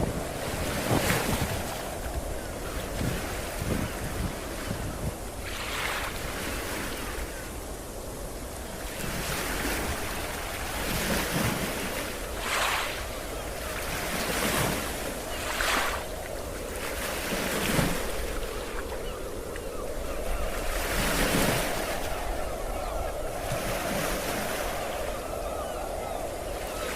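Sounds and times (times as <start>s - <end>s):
ocean waves on a beach: 0.0s - 26.9s
wind rumbling on microphone: 0.0s - 26.9s.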